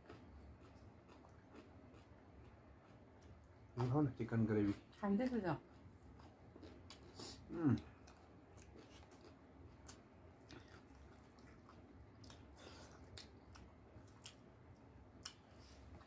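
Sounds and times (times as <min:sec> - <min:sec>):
faint chewing and mouth smacks: 0:00.0 - 0:03.8, 0:05.6 - 0:16.0.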